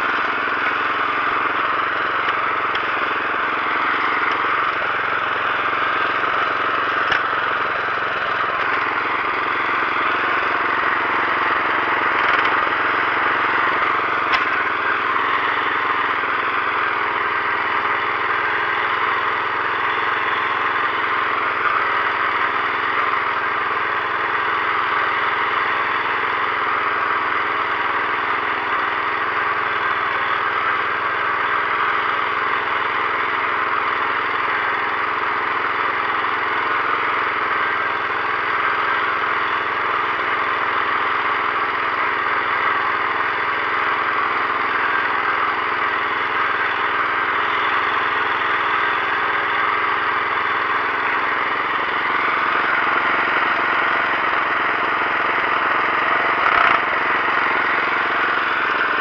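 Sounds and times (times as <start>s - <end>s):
petrol engine running under load: 0.0s - 59.0s.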